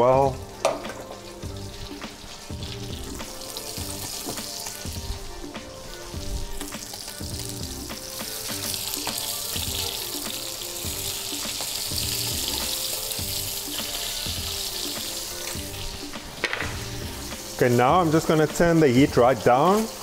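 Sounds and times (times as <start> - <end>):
background music: 0.0 - 20.0
fish sizzling in frying pan: 0.0 - 20.0.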